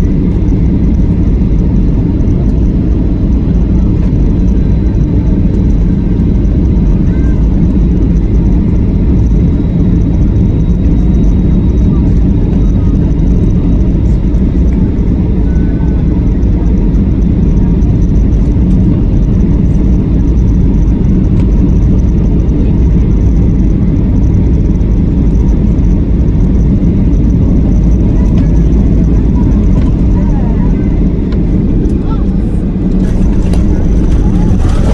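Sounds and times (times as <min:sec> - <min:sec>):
airplane cabin engine noise: 0:00.0 - 0:34.9.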